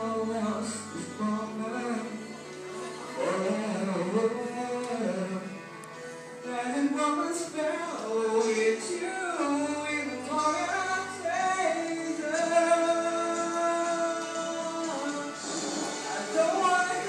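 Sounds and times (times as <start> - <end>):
music with singing voice: 0.0 - 17.0.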